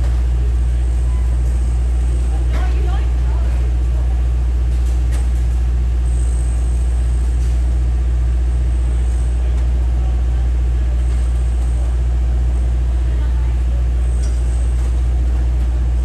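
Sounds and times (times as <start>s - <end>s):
construction machinery engine idling: 0.0s - 16.0s.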